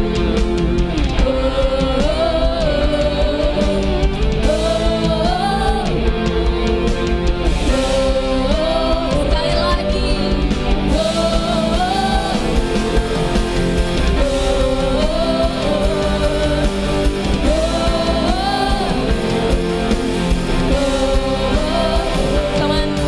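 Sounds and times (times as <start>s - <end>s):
worship band playing: 0.0s - 23.0s.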